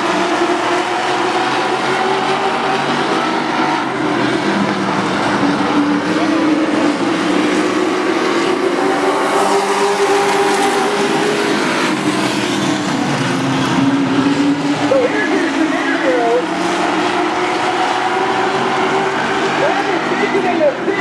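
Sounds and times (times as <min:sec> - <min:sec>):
race trucks engine drone: 0:00.0 - 0:21.0.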